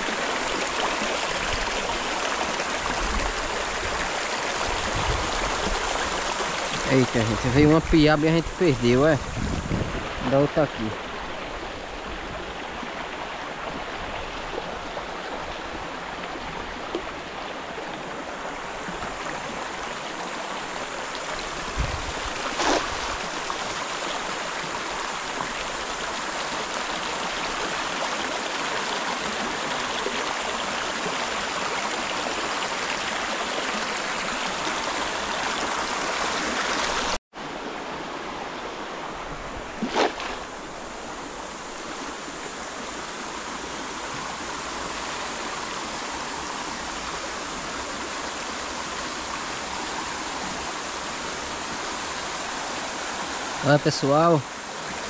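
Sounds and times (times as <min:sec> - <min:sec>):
creek water running: 0:00.0 - 0:55.0.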